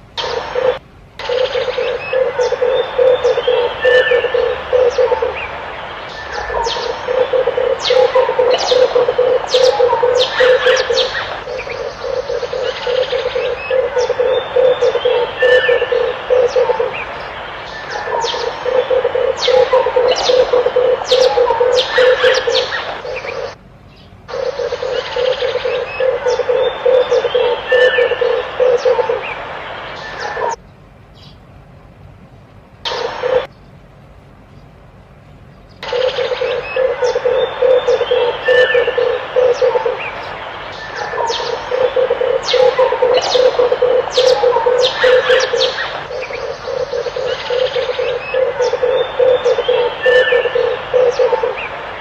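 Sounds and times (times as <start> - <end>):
doves cooing: 0.0 - 23.6, 24.3 - 30.6, 32.9 - 33.5, 35.8 - 52.0
small birds chirping: 0.0 - 31.5, 34.4 - 52.0.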